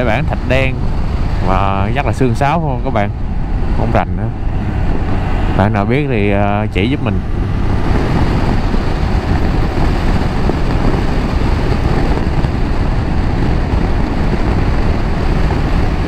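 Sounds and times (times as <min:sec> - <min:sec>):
wind rush: 0:00.0 - 0:16.0
motorcycle engine: 0:03.0 - 0:16.0.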